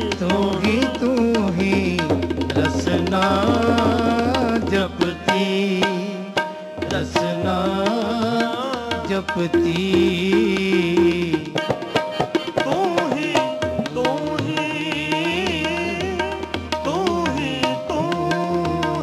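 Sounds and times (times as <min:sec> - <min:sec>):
harmonium: 0:00.0 - 0:19.0
person singing: 0:00.0 - 0:19.0
tabla strokes: 0:00.0 - 0:19.0.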